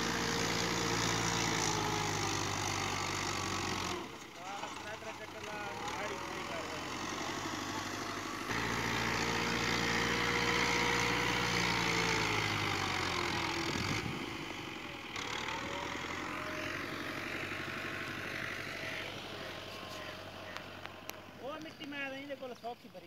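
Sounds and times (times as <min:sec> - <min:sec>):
tractor diesel engine under load: 0:00.0 - 0:22.4.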